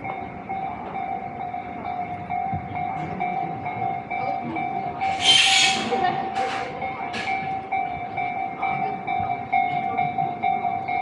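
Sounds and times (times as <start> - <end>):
level crossing alarm dinging: 0.0 - 11.0
train passing: 0.0 - 11.0.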